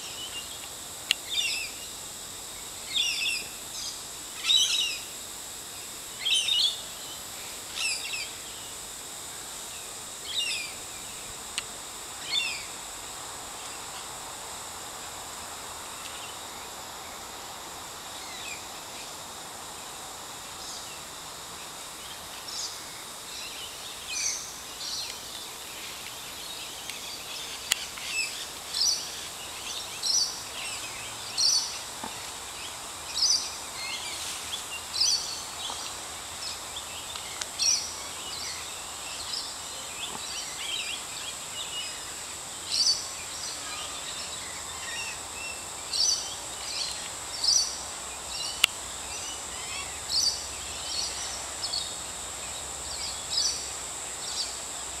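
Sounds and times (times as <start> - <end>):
steady high-pitched whine: 0.0 - 55.0.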